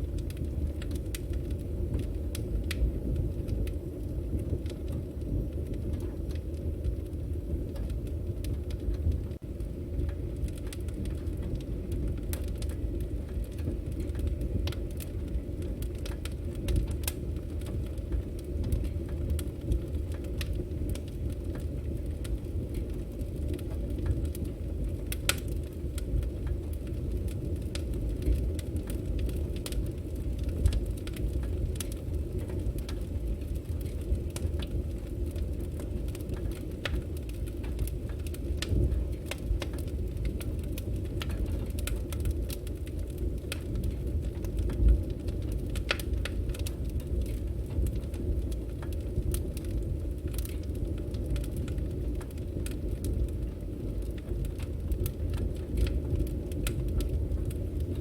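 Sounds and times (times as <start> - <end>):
firewood burning and crackling: 0.0 - 58.0.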